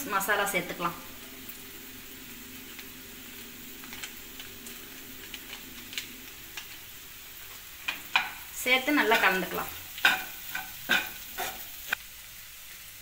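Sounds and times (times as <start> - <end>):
stir-fry sizzling: 0.0 - 13.0.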